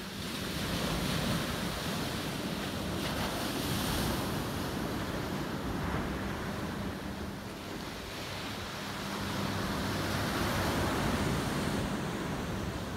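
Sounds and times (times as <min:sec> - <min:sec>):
surf rushing: 0:00.0 - 0:12.9
wind on microphone: 0:00.0 - 0:12.9.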